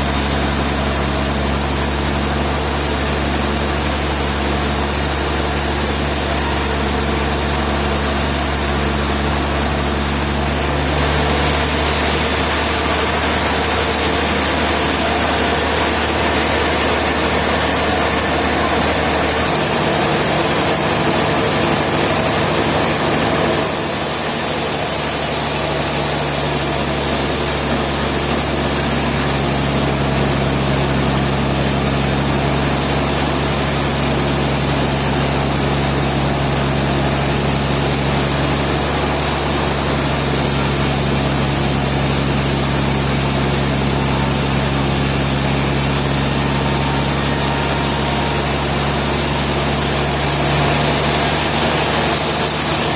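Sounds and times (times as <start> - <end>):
engine-driven machinery running: 0.0 - 52.9.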